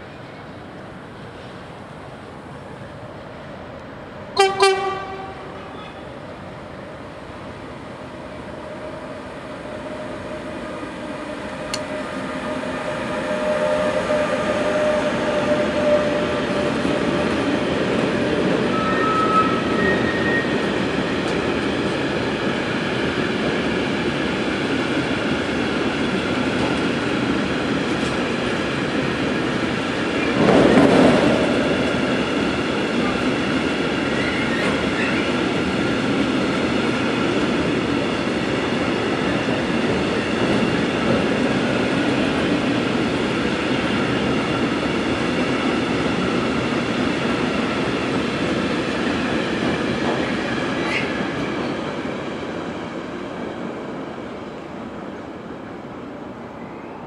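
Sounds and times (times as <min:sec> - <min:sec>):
freight train rolling rumble: 0:00.0 - 0:57.0
loud rush of train: 0:00.0 - 0:57.0.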